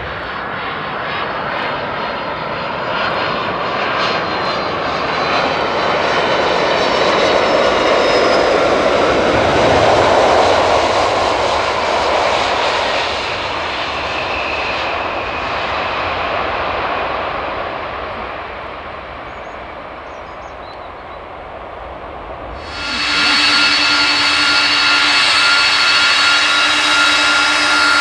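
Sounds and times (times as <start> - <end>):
jet engines roaring: 0.0 - 20.0, 21.3 - 28.0.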